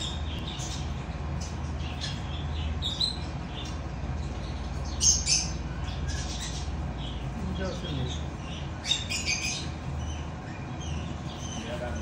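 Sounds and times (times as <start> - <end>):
cockatiels chirping and squawking: 0.0 - 12.0
steady low hum: 0.0 - 12.0.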